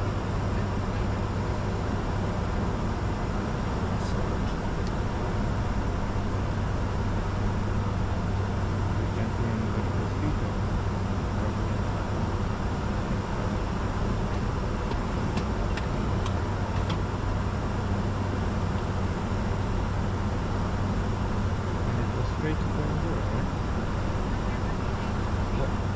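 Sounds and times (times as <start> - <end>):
constant low hum: 0.0 - 25.9
jet engine and airflow rumble: 0.0 - 25.9.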